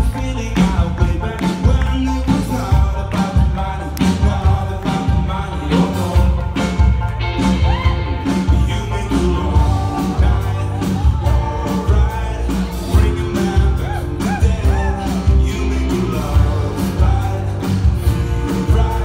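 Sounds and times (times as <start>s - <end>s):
live rock-pop band playing: 0.0s - 19.0s
person singing: 0.0s - 19.0s
steady drum beat: 0.0s - 19.0s.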